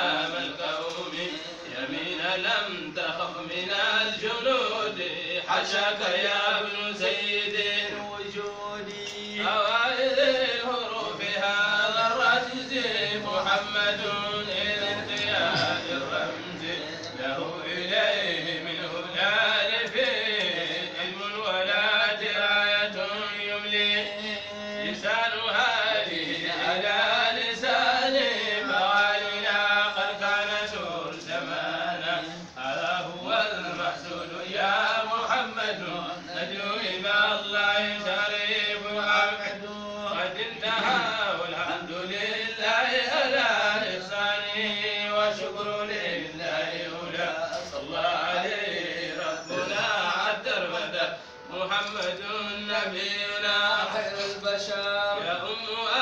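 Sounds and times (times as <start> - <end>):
voices chanting long notes: 0.0 - 56.0.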